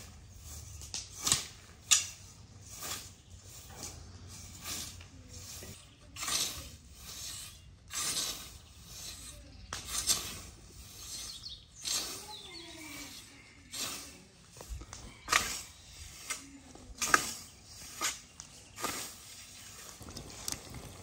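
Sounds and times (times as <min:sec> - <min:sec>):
scythe swishing through grass: 0:00.0 - 0:20.0.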